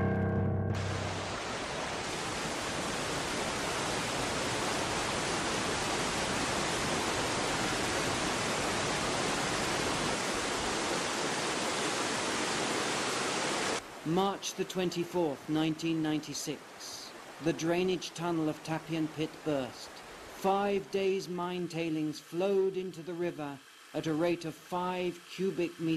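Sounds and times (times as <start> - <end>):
fast-flowing water rushing: 0.8 - 25.9.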